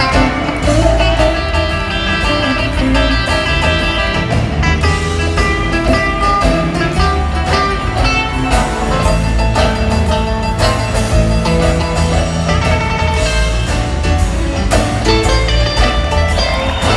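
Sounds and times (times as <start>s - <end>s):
electric blues band playing: 0.0s - 16.9s.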